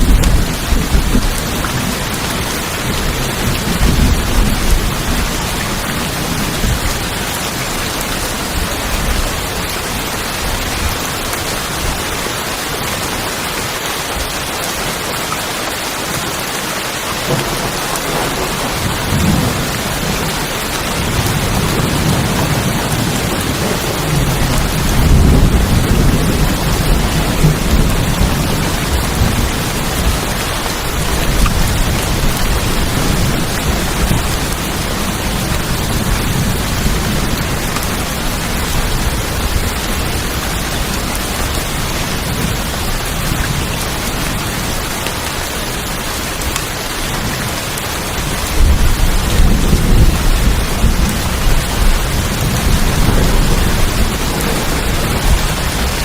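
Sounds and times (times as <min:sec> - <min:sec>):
thunder rumbling: 0:00.0 - 0:12.1, 0:17.2 - 0:44.8, 0:48.2 - 0:56.0
heavy rain on a tin roof: 0:00.0 - 0:56.0.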